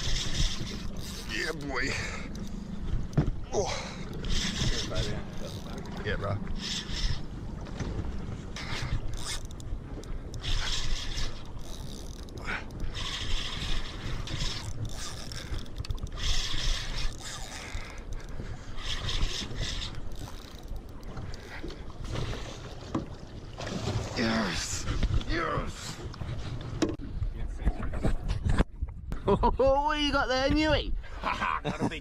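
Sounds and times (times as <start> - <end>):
choppy water around boat: 0.0 - 32.0.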